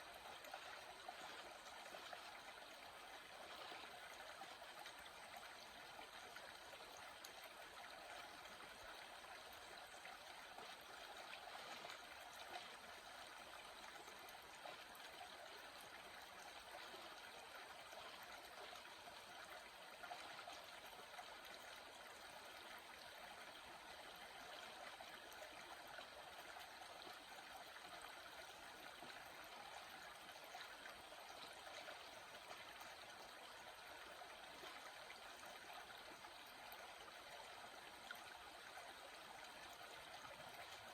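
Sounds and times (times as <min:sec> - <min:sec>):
small stream flowing: 0:00.0 - 0:40.9.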